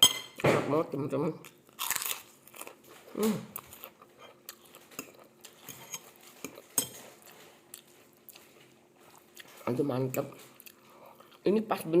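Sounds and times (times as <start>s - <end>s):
chewing: 1.8s - 11.4s.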